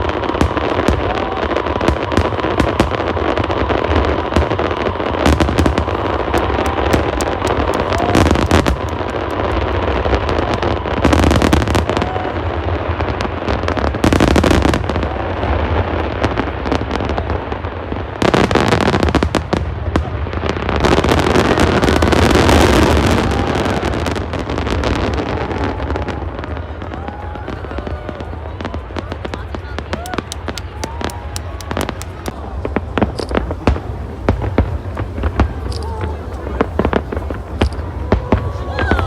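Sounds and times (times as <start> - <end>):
fireworks bursts and crackle: 0.0 - 39.0.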